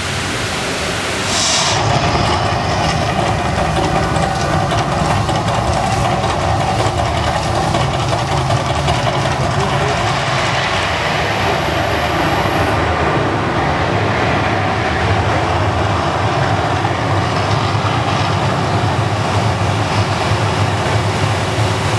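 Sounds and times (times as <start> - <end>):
artificial volcano rumbling roar: 0.0 - 21.8.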